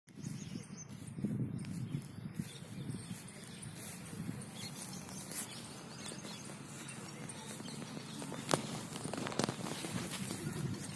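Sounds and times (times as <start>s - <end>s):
faint bird chirps: 0.1s - 10.9s.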